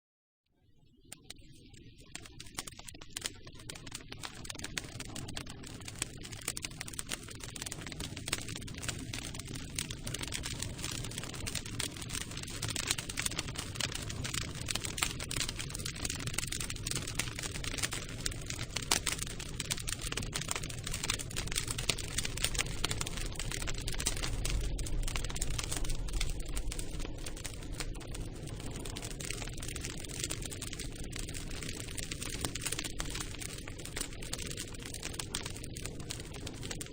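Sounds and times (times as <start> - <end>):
crackling of burning wood: 2.1 - 36.9
low fire rumble: 2.1 - 36.9.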